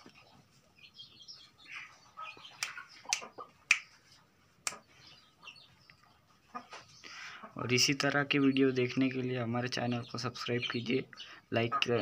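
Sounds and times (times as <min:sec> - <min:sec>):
faint chicken sounds: 0:00.0 - 0:12.0.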